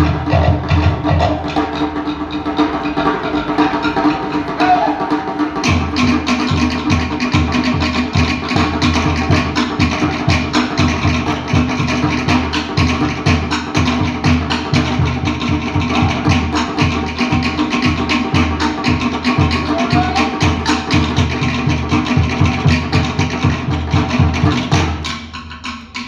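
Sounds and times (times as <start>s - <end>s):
deep bass drum beating: 0.0s - 3.7s, 5.6s - 24.9s
sharp wooden drum strikes: 0.0s - 26.0s.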